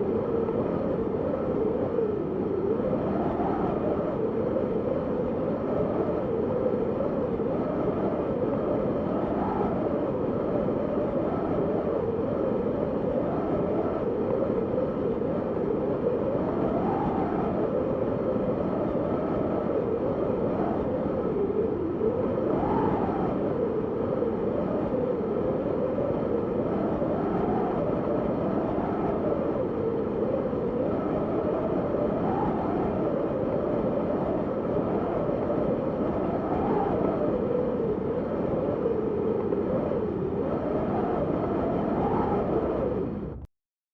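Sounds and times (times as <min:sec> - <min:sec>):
wind whistling: 0:00.0 - 0:43.5.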